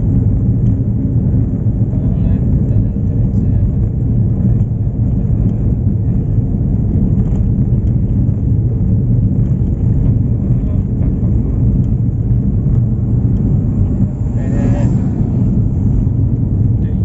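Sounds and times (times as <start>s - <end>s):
vehicle rumbling on concrete road: 0.0s - 17.0s.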